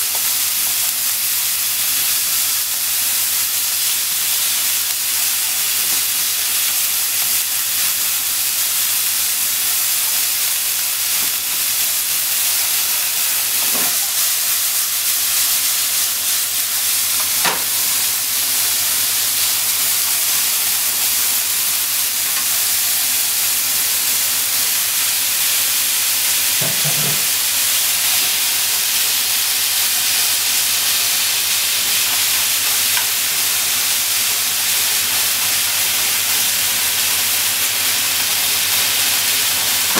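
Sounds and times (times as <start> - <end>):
minced meat sizzling in a frying pan: 0.0 - 39.9.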